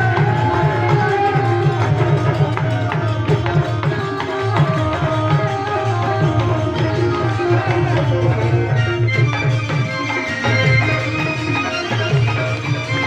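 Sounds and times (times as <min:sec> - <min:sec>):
hand drum rhythm: 0:00.0 - 0:13.0.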